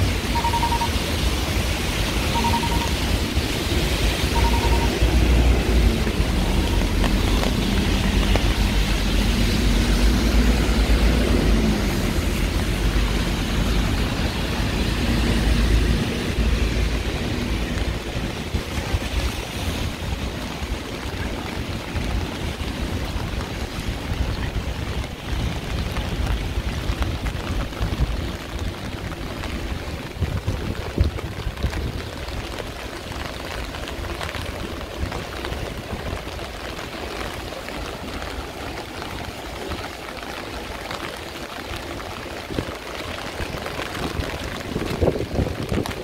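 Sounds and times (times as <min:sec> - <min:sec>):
heavy rain on street: 0:00.0 - 0:46.0.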